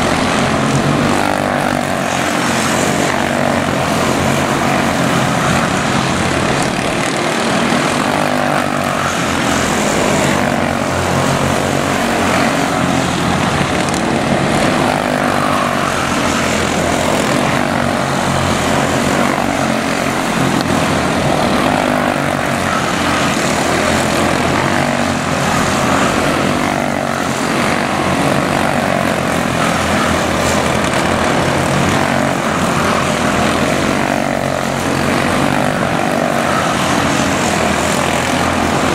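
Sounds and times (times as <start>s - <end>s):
race car engines buzzing: 0.0s - 38.9s.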